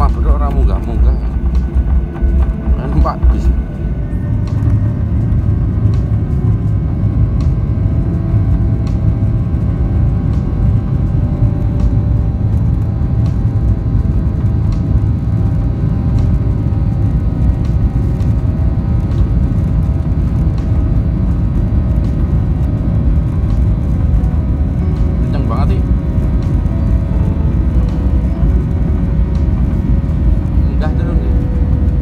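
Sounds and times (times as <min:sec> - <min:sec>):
airliner engine rumble: 0:00.0 - 0:32.0
faint steady whine: 0:00.0 - 0:32.0.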